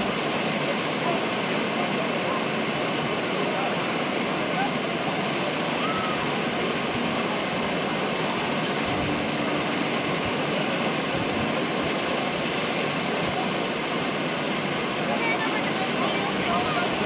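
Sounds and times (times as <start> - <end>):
large crowd hubbub: 0.0 - 17.0.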